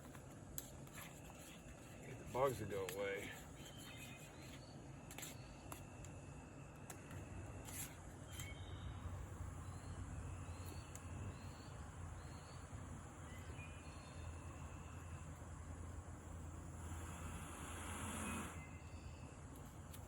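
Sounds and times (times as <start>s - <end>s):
steady low hum: 0.0s - 20.0s
faint bird chirps: 0.9s - 15.8s, 18.2s - 19.8s.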